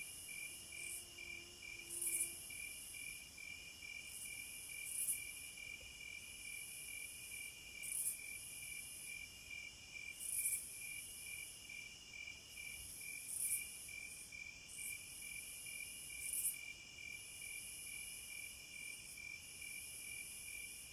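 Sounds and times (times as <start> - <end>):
cicadas droning: 0.0 - 20.9.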